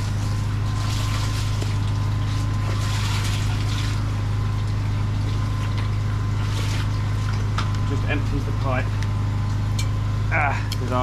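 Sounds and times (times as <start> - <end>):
drain cleaning unit engine drone: 0.0 - 11.0.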